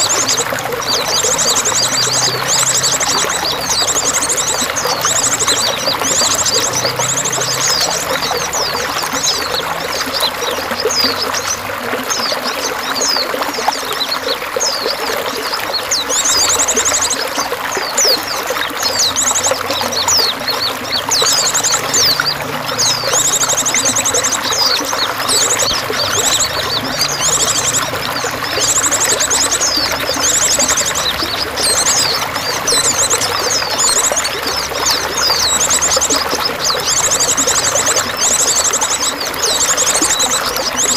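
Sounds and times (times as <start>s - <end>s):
small birds chirping and trilling: 0.0s - 40.9s
water pouring and trickling: 0.0s - 40.9s.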